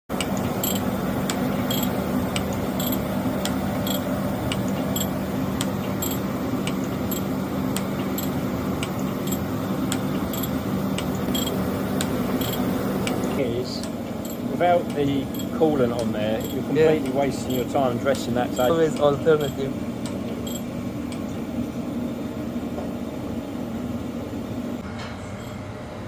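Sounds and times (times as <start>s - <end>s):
light regular ticking: 0.2s - 21.2s.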